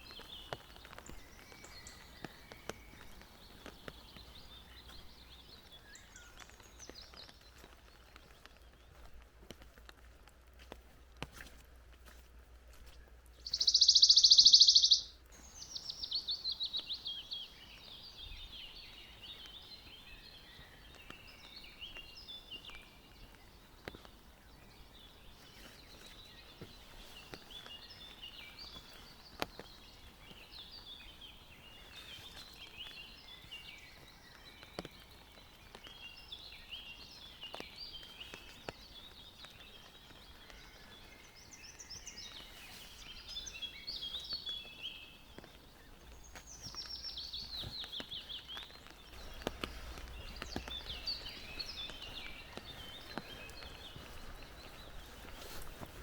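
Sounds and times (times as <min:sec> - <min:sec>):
forest birds chirping: 0:00.0 - 0:56.0.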